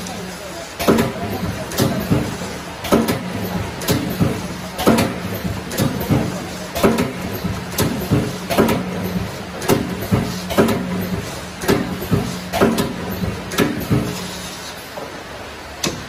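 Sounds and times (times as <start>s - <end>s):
welding head clacking: 0.8s - 14.4s, 15.8s - 16.0s.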